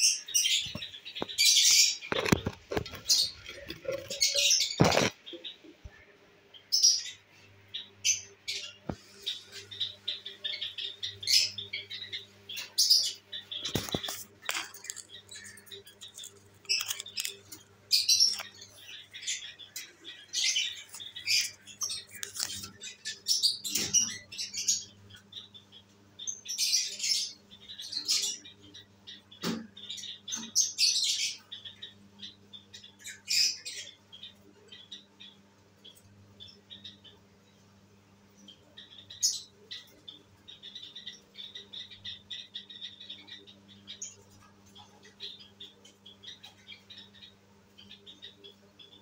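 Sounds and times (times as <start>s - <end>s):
lovebirds chirping and squawking: 0.0s - 49.0s.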